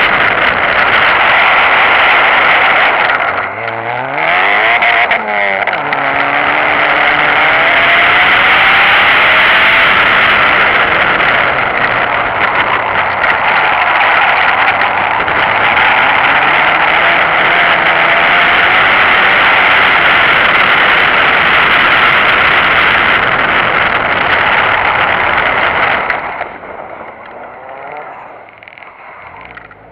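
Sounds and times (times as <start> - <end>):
car engine: 0.0 - 29.9
wind noise: 0.0 - 29.9.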